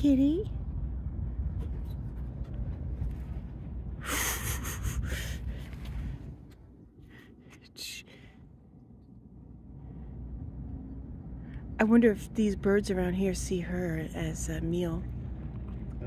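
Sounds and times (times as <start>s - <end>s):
wind rumble on microphone: 0.0s - 7.6s, 8.2s - 16.0s.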